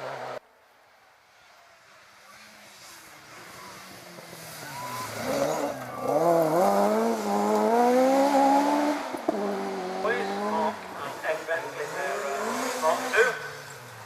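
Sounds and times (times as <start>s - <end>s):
rally car engine revving: 2.3s - 14.0s.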